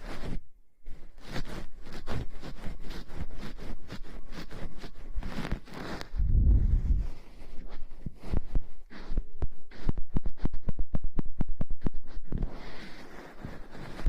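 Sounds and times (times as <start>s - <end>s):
rustling and scratching crackles: 0.0s - 14.0s.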